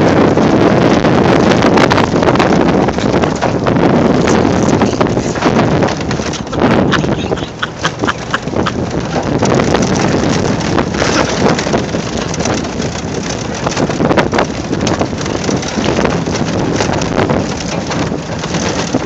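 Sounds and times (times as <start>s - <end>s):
knocks and rattles: 0.0s - 19.0s
rumble of towing vehicle: 0.0s - 19.0s
wind buffeting microphone: 0.0s - 19.0s.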